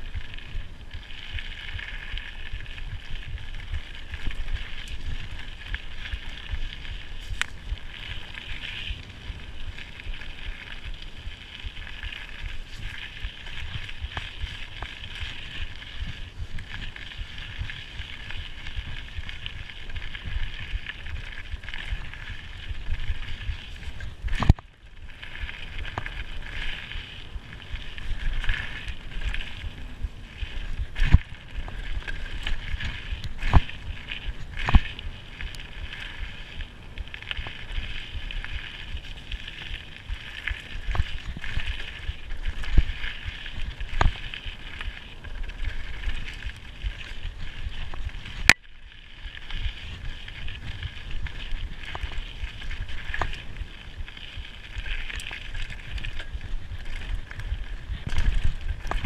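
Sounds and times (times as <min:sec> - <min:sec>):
wind on microphone: 0:00.0 - 0:48.6, 0:49.4 - 0:59.0
bike knocking and rattling: 0:00.4 - 0:48.7, 0:49.4 - 0:59.0.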